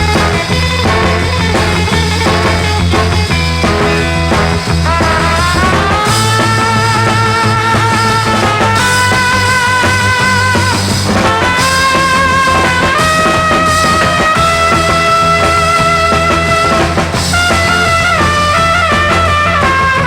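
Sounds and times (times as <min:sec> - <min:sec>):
rock music with horns: 0:00.0 - 0:20.0.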